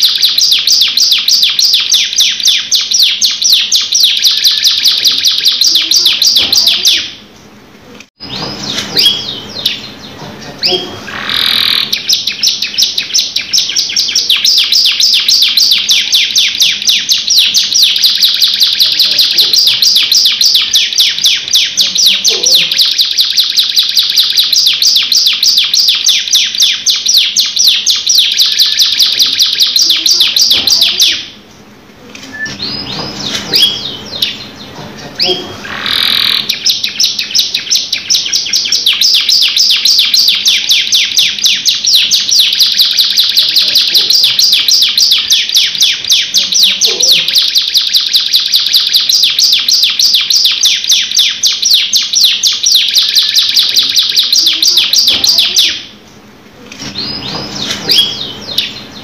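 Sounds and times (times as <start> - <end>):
canary singing rapid trill: 0.0 - 7.6, 8.2 - 31.5, 32.3 - 56.1, 56.8 - 59.0.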